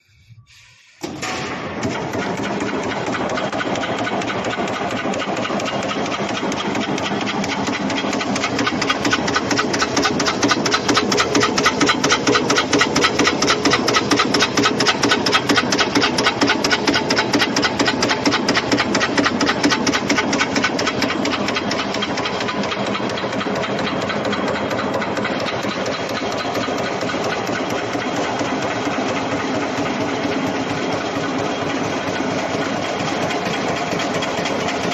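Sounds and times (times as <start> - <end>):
metal press clattering: 1.0 - 34.9.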